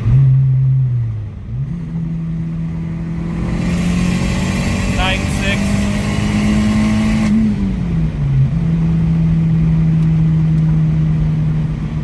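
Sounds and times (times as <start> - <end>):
car engine revving under load: 0.0 - 12.0.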